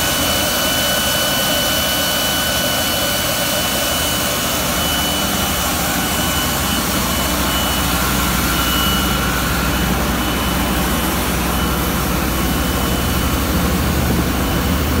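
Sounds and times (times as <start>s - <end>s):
loud machine drone: 0.0s - 15.0s
thin high machine whine: 0.0s - 15.0s.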